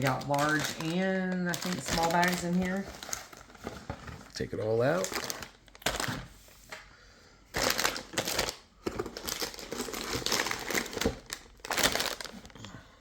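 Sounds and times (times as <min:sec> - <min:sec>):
plastic packaging crinkling: 0:00.0 - 0:06.3, 0:07.5 - 0:12.7.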